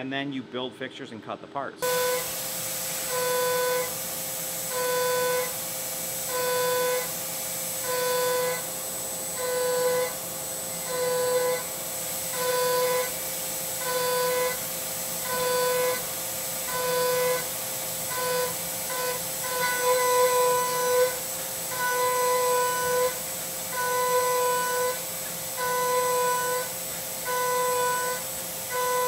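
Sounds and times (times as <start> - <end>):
coolant spray hiss: 1.8 - 29.0
pitched milling cutting tone: 1.8 - 29.0.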